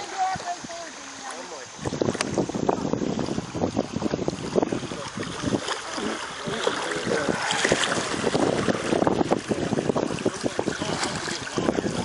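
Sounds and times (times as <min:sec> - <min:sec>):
waves slapping plastic kayak hull: 0:00.0 - 0:12.0
wind buffeting microphone: 0:00.0 - 0:12.0.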